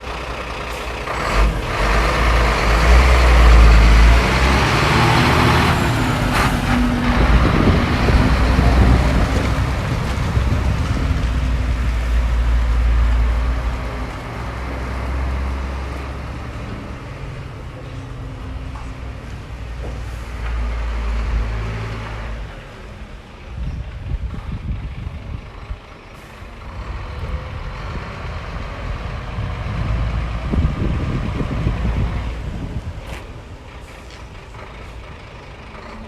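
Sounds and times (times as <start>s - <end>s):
diesel lorry engine running: 0.0s - 36.0s.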